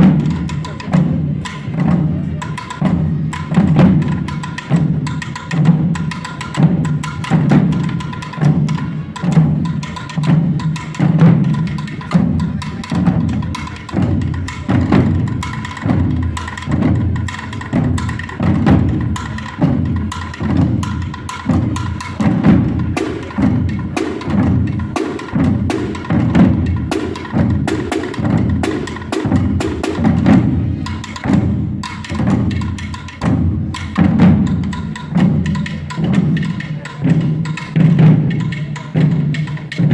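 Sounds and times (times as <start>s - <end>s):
drum corps playing slow march: 0.0s - 39.9s.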